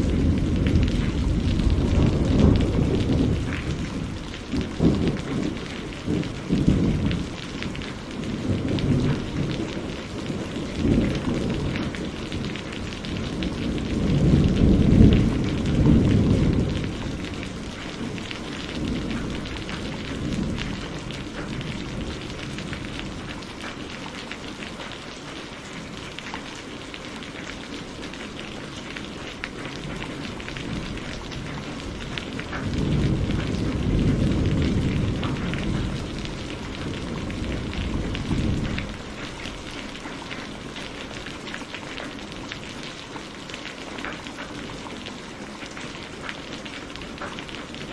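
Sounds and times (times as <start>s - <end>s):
thunder rumbling: 0.0s - 24.6s, 28.2s - 43.0s
rain pattering: 0.0s - 47.9s.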